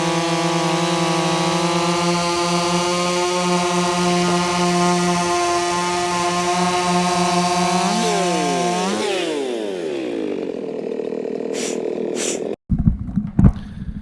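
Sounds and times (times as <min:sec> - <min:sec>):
chainsaw running at high revs: 0:00.0 - 0:12.6.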